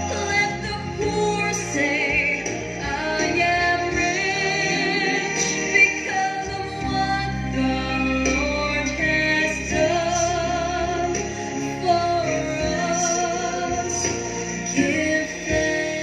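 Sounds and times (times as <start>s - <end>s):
soft instrumental accompaniment: 0.0s - 16.0s.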